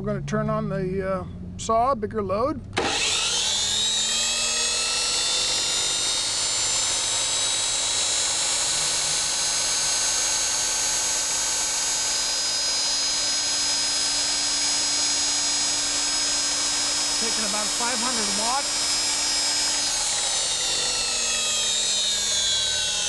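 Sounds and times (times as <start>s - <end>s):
cut-off saw high whine: 2.8s - 23.0s.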